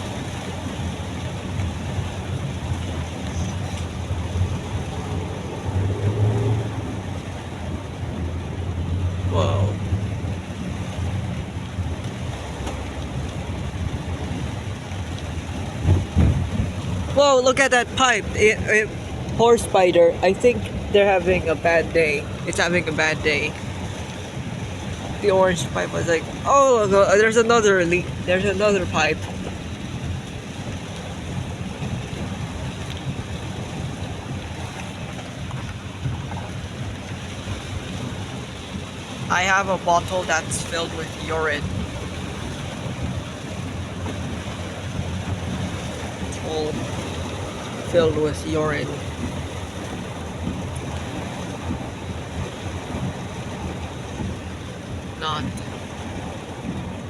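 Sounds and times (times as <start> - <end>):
car engine rumble inside cabin: 0.0 - 57.0
road noise: 0.0 - 57.0.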